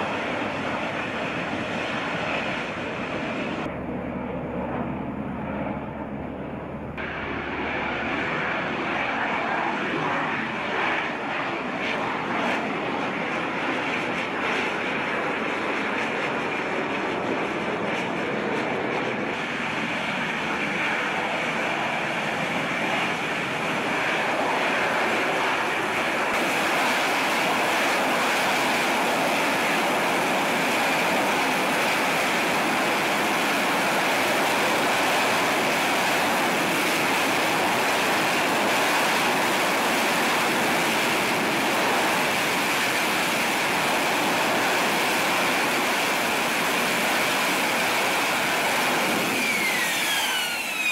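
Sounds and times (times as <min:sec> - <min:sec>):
jet engine with high whine: 0:00.0 - 0:50.9.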